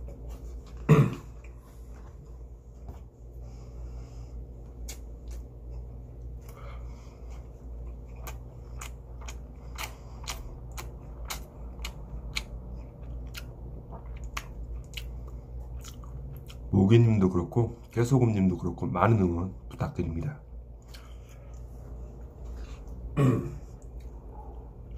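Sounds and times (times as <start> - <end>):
man chewing: 0.0 - 16.7, 20.6 - 24.9
low hum: 0.0 - 24.9.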